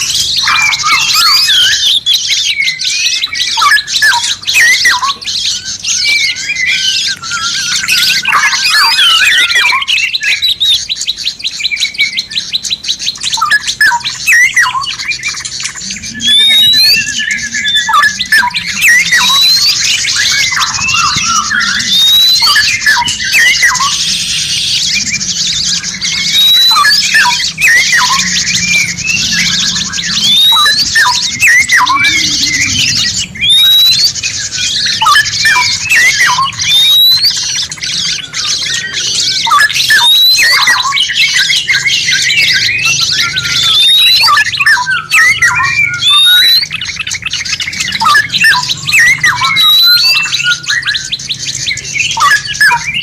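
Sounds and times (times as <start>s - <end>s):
songbirds chirping chorus: 0.0s - 53.0s.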